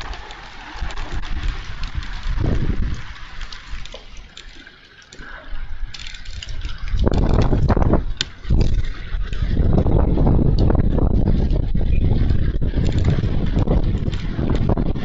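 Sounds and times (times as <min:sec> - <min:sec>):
gusting wind buffeting microphone: 0:00.0 - 0:15.0
rain and hail ticking: 0:00.0 - 0:15.0.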